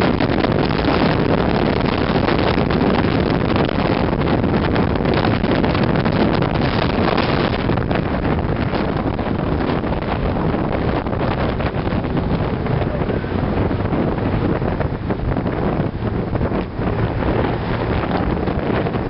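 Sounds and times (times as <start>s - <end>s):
car engine and tyre noise: 0.0s - 19.0s
wind buffeting microphone: 0.0s - 19.0s.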